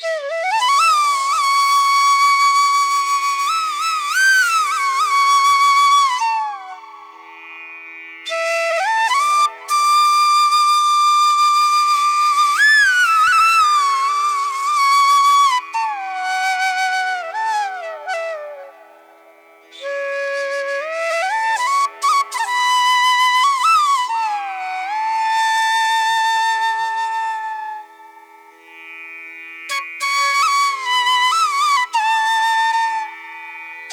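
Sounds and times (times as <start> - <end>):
flute-like wind instrument melody: 0.0 - 7.3, 8.2 - 28.4, 29.7 - 33.9.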